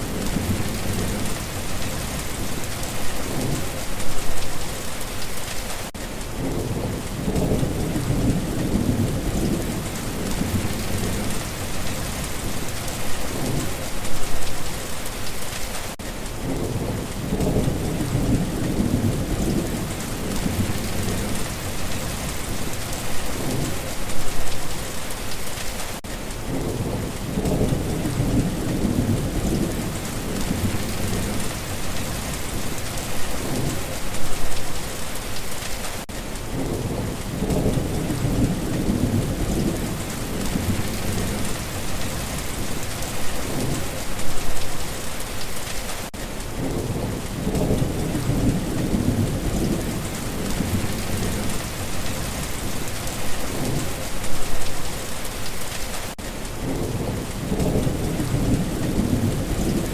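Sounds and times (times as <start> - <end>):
thunder rumbling: 0.0 - 5.0, 6.3 - 15.0, 16.4 - 24.8, 26.4 - 34.8, 36.5 - 44.9, 46.5 - 55.7, 56.6 - 59.9
steady rain falling: 0.0 - 59.9.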